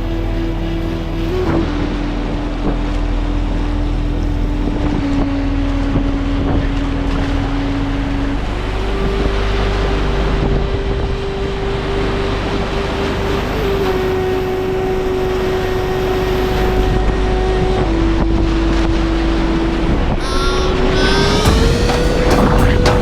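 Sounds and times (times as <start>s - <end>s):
steady hum: 0.0s - 23.0s
wind buffeting microphone: 0.0s - 23.0s.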